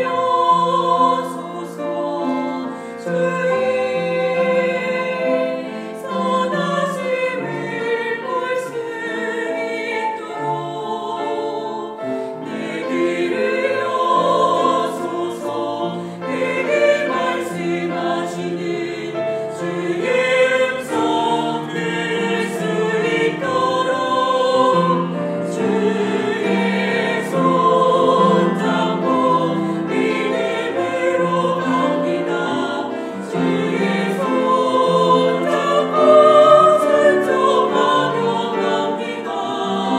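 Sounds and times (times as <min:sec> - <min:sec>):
mixed choir singing in harmony: 0:00.0 - 0:39.9
piano: 0:00.0 - 0:39.9
strings: 0:00.0 - 0:39.9.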